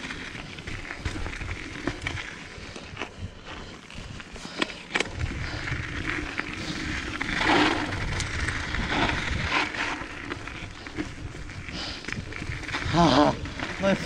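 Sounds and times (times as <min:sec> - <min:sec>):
bike tyres crunching over dirt: 0:00.0 - 0:14.0.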